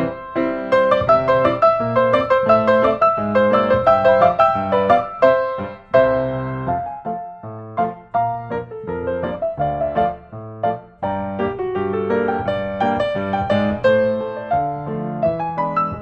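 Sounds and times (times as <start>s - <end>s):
lively piano music: 0.0s - 16.0s.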